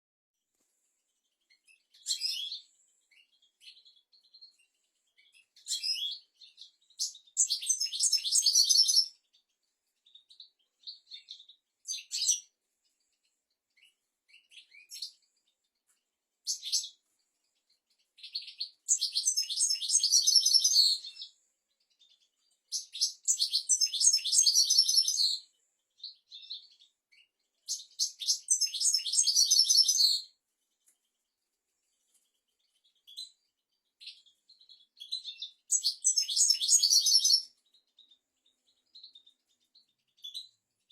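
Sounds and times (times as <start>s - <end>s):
finch singing: 1.2s - 31.0s, 31.9s - 40.9s.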